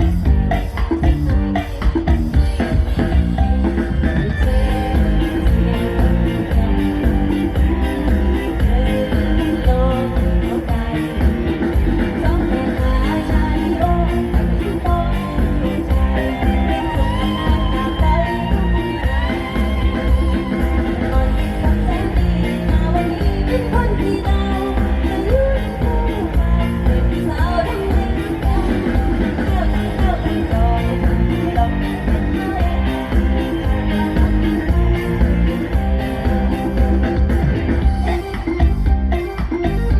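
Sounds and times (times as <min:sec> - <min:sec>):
live band music with singing: 0:00.0 - 0:39.9.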